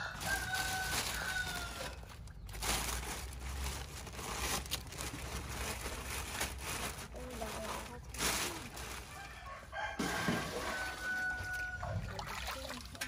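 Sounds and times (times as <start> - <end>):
plastic bag rustling: 0.0 - 11.8.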